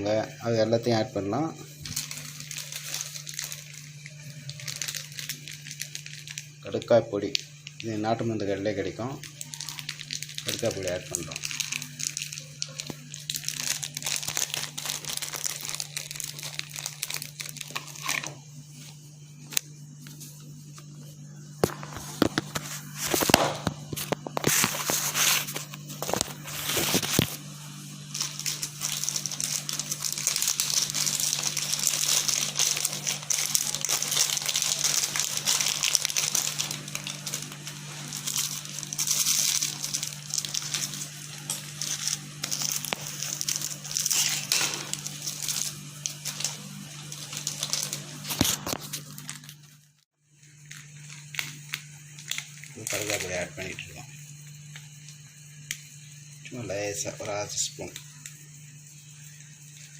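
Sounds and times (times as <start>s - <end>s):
steady low hum: 0.0s - 59.9s
plastic packet crinkling: 1.6s - 18.4s, 21.6s - 54.1s.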